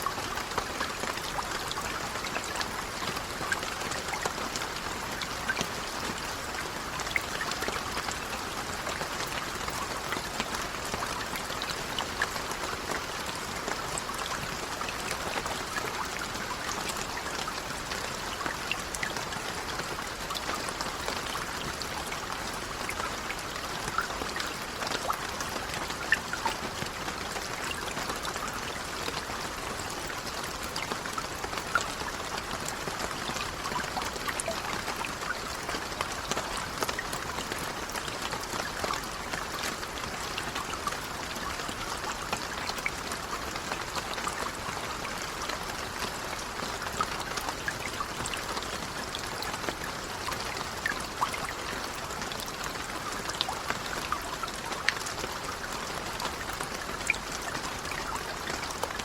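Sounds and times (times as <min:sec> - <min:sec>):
light rain falling: 0:00.0 - 0:59.0
water drips: 0:00.0 - 0:59.0.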